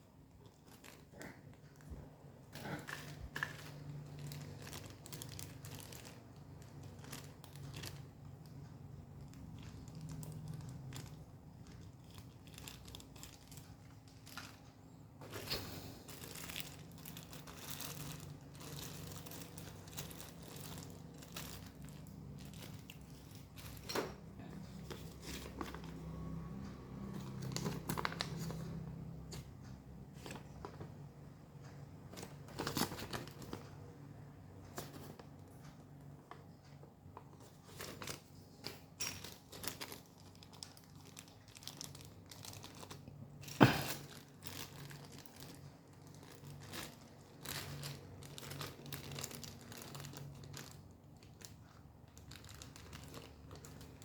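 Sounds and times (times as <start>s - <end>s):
packaging crinkling and rustling: 0.0s - 31.1s, 31.7s - 54.0s
low steady hum: 0.0s - 54.0s.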